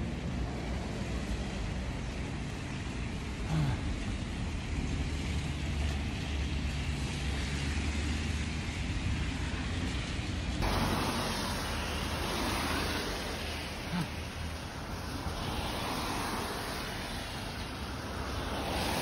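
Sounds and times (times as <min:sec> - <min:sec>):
passing cars rumble: 0:00.0 - 0:19.0
tyre hiss on wet road: 0:00.6 - 0:19.0.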